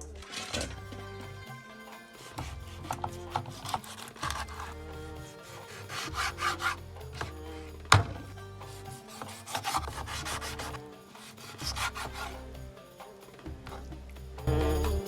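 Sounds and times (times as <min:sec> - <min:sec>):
rasping scraping strokes: 0:00.0 - 0:15.0
soft background music: 0:00.0 - 0:15.0.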